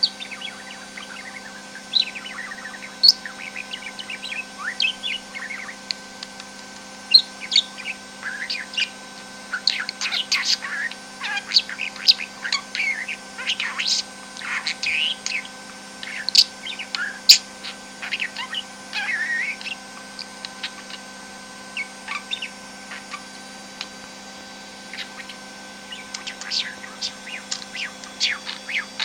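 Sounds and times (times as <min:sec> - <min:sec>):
budgerigar chirping: 0:00.0 - 0:06.4, 0:07.1 - 0:23.4, 0:24.7 - 0:29.0.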